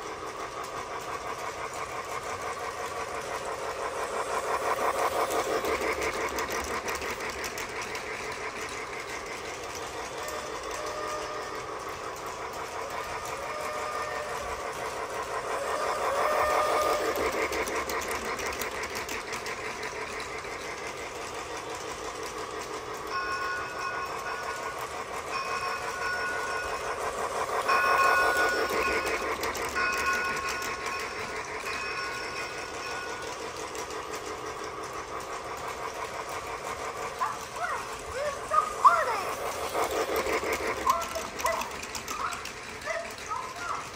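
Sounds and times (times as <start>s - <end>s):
toy train rattling on track: 0.0s - 43.9s.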